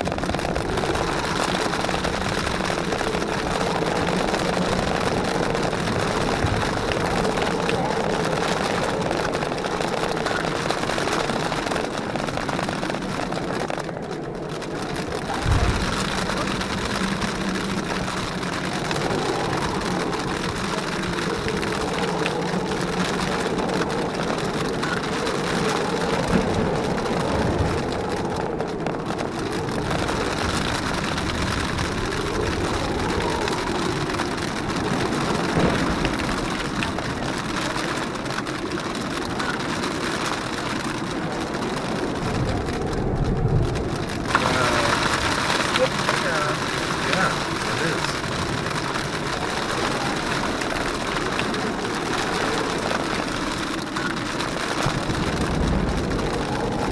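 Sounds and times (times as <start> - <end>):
car engine driving slowly: 0.0 - 56.9
wind and rain noise: 0.0 - 56.9.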